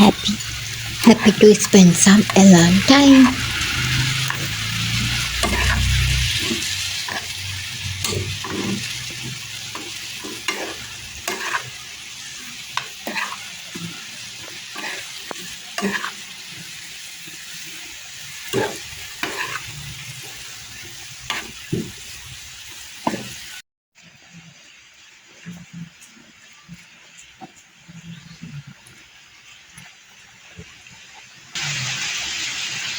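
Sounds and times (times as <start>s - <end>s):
food sizzling in a frying pan: 0.0s - 32.9s.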